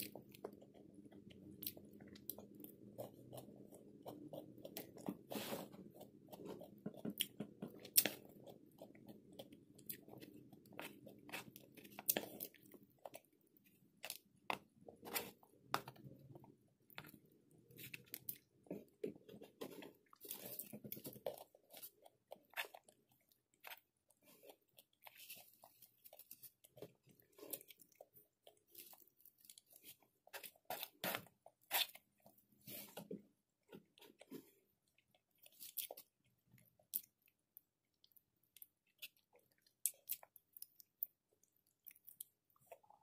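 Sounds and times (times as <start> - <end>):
person chewing with crunches: 0.0 - 43.0.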